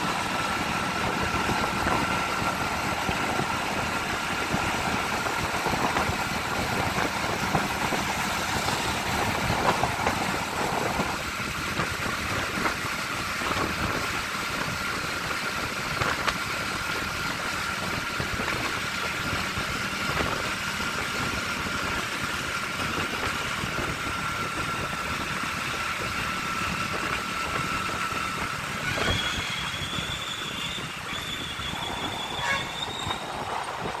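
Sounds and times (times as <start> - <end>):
motorcycle engine running: 0.0 - 34.0
thin steady whine: 0.0 - 34.0
wind and road noise: 0.0 - 34.0.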